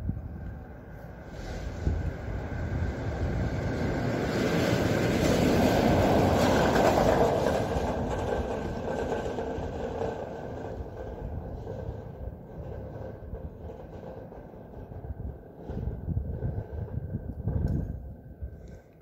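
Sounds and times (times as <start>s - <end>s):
train rumbling past: 0.0s - 18.8s.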